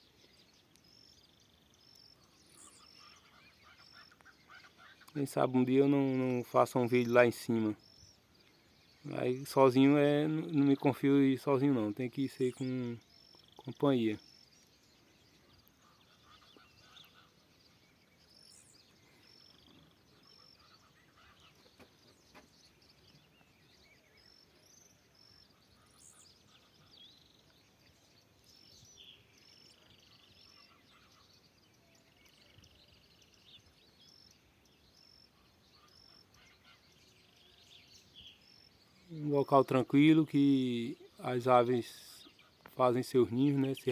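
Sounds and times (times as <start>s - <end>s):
birds chirping and trilling: 0.0s - 43.9s.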